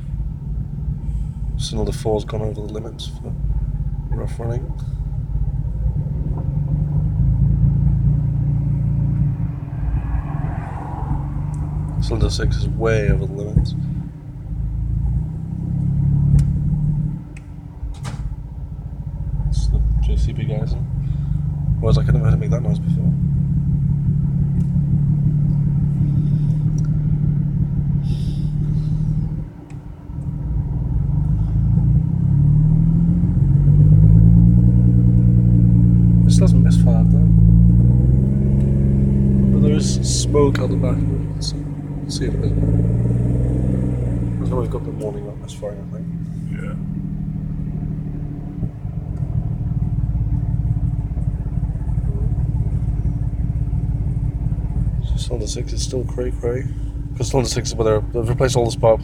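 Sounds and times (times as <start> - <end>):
car engine misfiring: 0.0 - 59.0.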